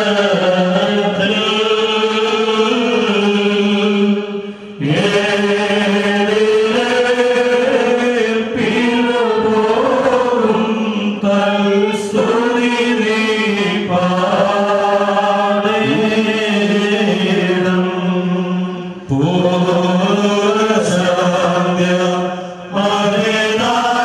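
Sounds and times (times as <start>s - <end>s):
chant sung into a microphone: 0.0s - 24.0s.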